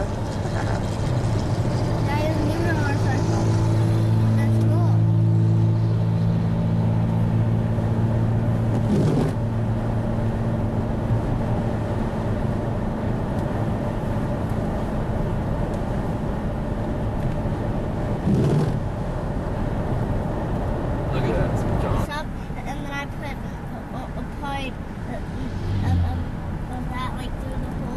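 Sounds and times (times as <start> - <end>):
car engine hum: 0.0 - 27.9
road noise: 0.0 - 27.9.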